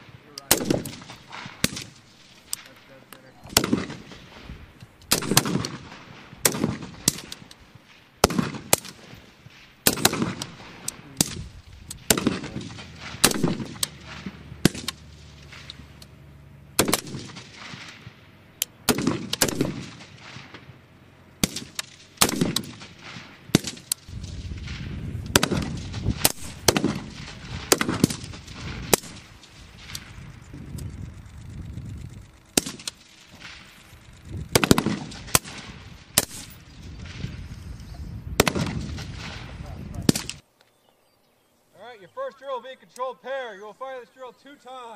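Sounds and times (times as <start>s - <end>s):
rifle shots echoing: 0.0s - 37.4s, 38.3s - 40.4s.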